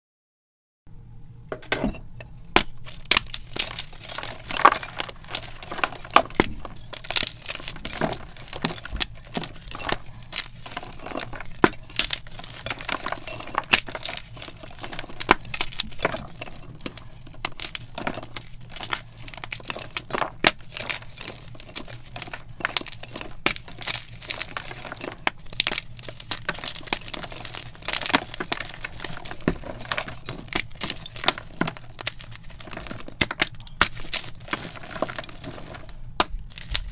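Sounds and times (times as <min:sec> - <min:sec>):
chalk blocks crunching and cracking: 0:02.3 - 0:36.9.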